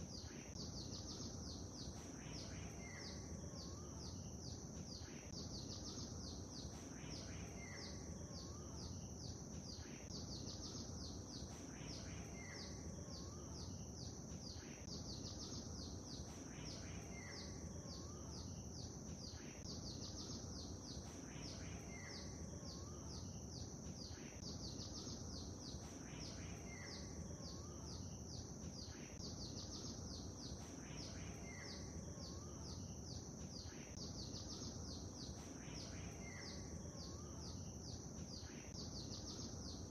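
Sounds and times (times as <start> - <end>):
birds singing and chirping: 0.0 - 39.9
low background noise: 0.0 - 39.9.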